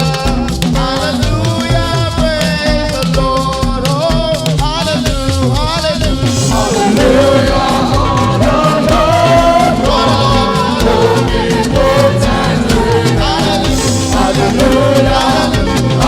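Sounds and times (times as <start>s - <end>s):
band with bass and drums: 0.0s - 16.0s
voices singing gospel: 0.0s - 16.0s.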